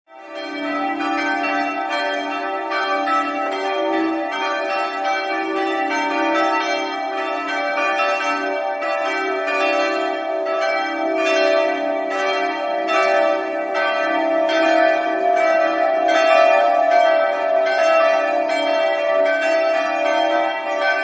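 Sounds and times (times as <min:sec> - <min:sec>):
church bells ringing: 0:00.1 - 0:21.0.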